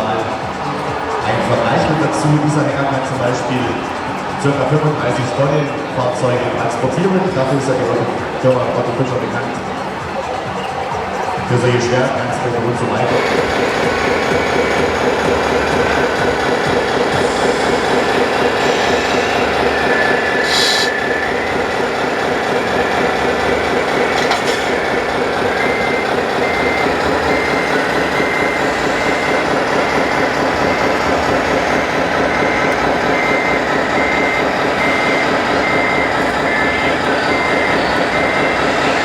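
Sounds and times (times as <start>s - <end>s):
reversing beeper: 0.0s - 39.0s
steady noisy background: 0.0s - 39.0s.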